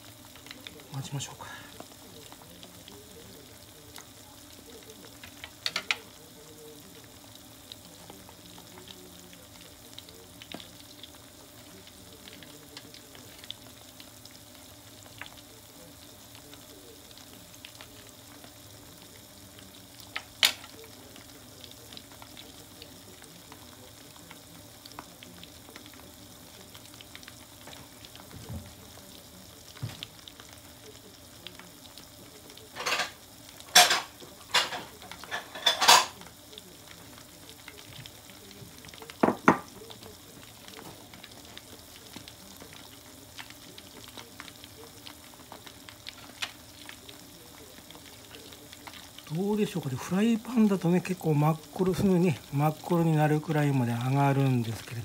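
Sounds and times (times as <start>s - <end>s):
food deep-frying in oil: 0.0s - 55.0s.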